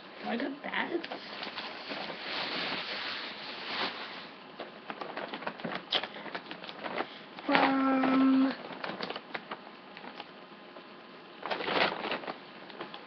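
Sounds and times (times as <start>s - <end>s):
steady pitched hum: 0.0s - 13.0s
clothing and bags rustling: 0.2s - 9.6s, 11.4s - 13.0s.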